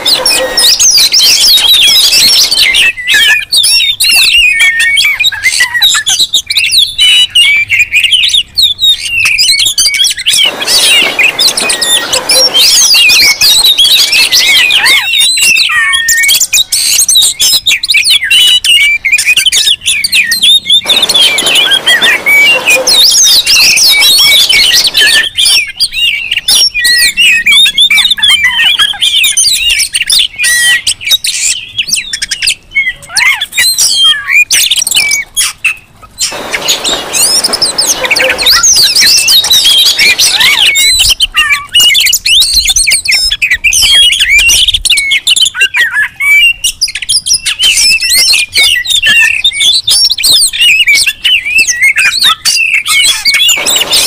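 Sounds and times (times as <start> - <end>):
birds singing and calling: 0.0 - 54.0.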